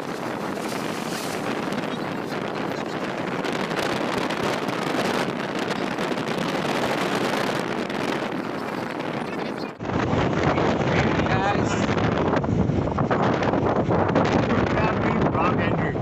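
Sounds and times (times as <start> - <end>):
road and wind noise: 0.0 - 16.0
wind buffeting microphone: 0.0 - 16.0.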